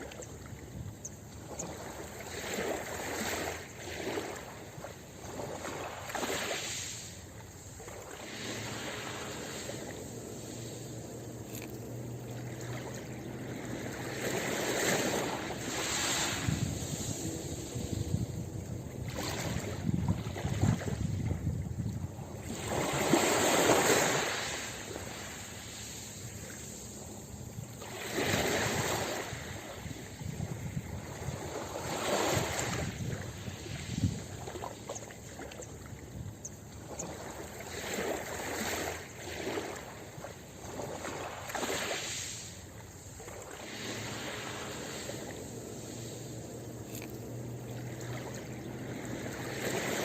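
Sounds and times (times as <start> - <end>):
ocean waves breaking on beach: 0.0 - 50.0.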